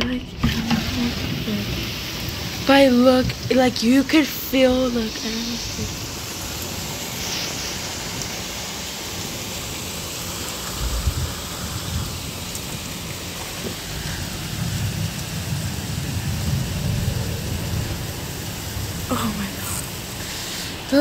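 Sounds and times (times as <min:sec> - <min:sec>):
heavy rain pouring: 0:00.0 - 0:21.0
thunder rumbling: 0:00.0 - 0:21.0.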